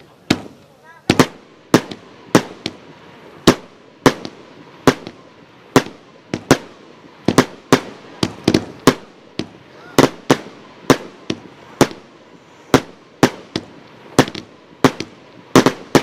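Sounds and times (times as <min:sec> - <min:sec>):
fireworks sharp bangs: 0:00.0 - 0:16.0.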